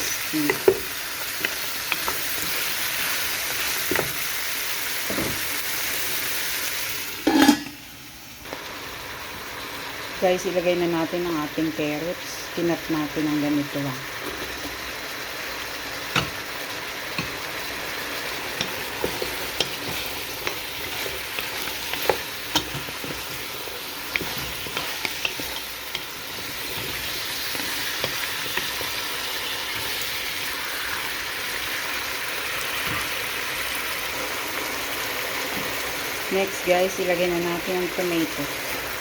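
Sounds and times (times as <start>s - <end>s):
meat and vegetables sizzling in oil: 0.0s - 39.0s.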